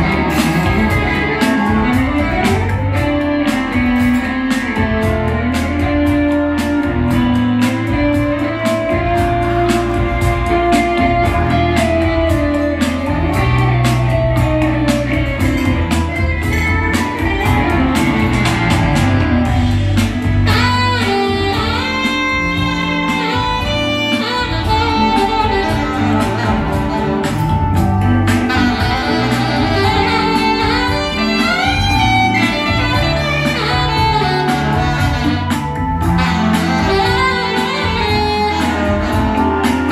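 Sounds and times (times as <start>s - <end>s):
bass line: 0.0s - 39.9s
electric guitar solo: 0.0s - 39.9s
steady drum beat: 0.0s - 39.9s.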